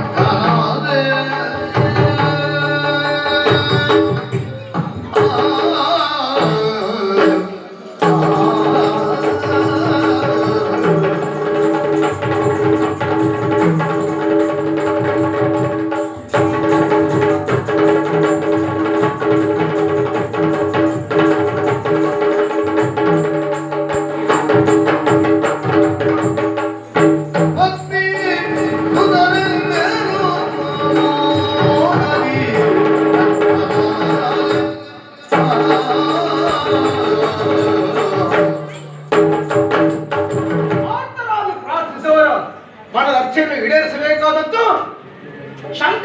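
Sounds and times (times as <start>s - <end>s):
fast hand-drumming on barrel drum: 0.0s - 7.4s, 8.0s - 41.0s.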